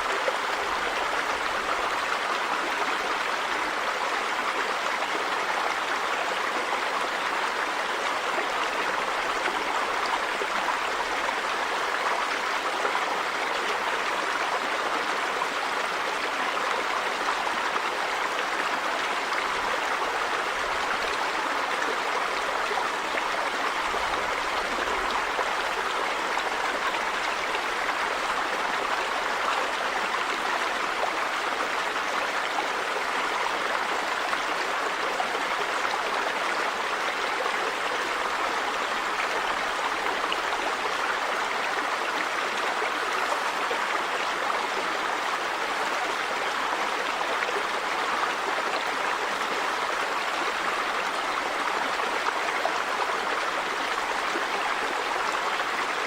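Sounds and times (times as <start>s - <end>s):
river water over rocks: 0.0s - 56.0s.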